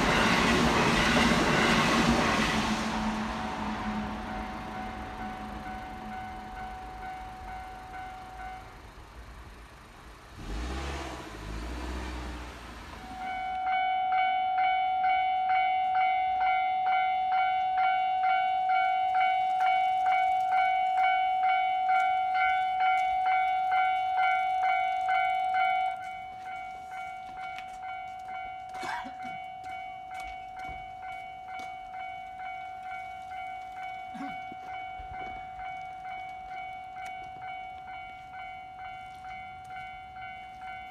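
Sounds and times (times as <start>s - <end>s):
level-crossing alarm bell ringing: 0.0s - 10.0s, 13.0s - 40.9s.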